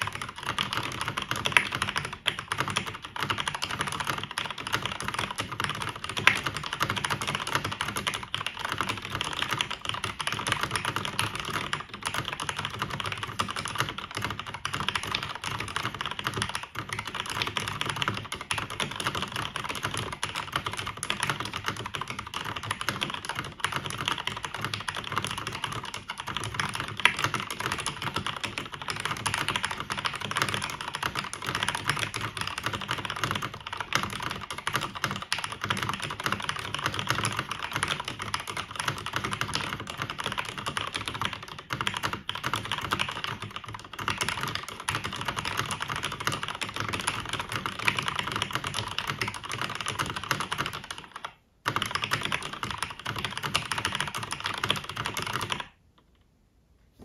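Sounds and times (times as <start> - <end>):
mechanical keyboard typing: 0.0 - 55.8.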